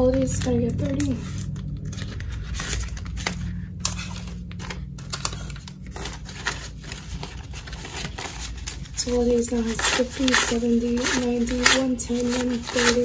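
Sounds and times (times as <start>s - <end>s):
paper banknotes rustling: 0.0s - 13.0s
plastic pocket crinkling: 0.0s - 13.0s.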